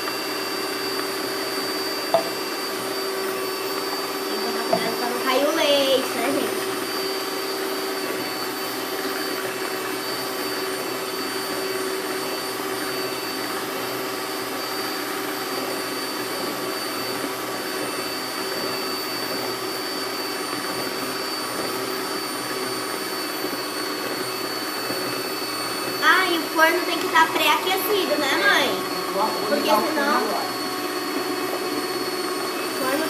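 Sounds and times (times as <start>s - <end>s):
stand mixer whirring: 0.0s - 33.0s.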